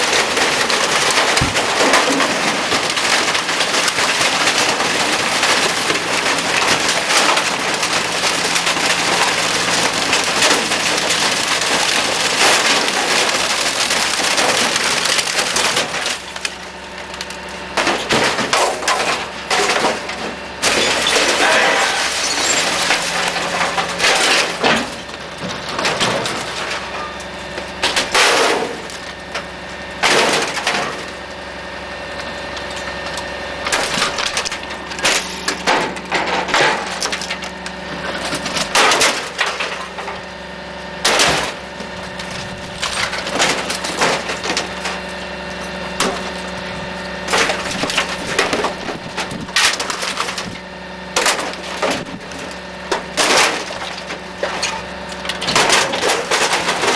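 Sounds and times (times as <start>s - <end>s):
compactor crushing junk: 0.0s - 56.9s
garbage truck hum: 0.0s - 56.9s.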